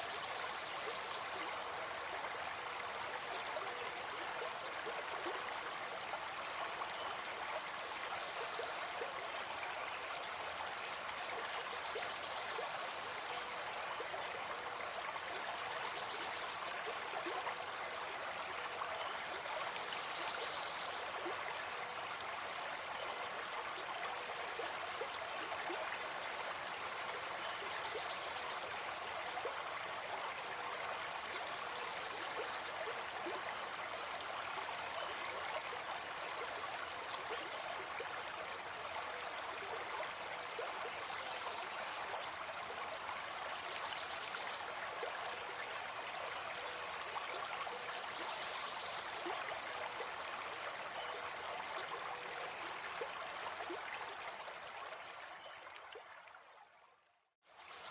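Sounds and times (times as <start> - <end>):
stream flowing: 0.0 - 56.8.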